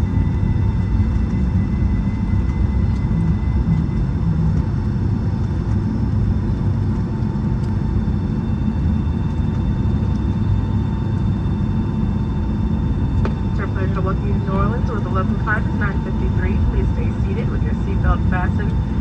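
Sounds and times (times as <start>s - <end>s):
jet engines idling rumble: 0.0s - 19.0s.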